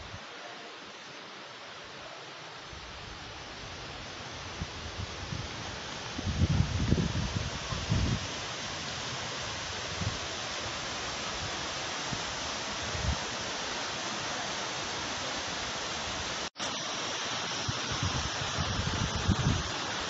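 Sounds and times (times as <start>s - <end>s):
waterfall rushing: 3.5s - 20.0s.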